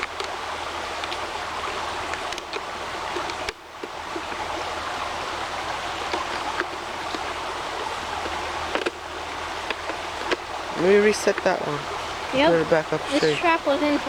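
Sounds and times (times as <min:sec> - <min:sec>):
creek rushing: 0:00.0 - 0:14.0.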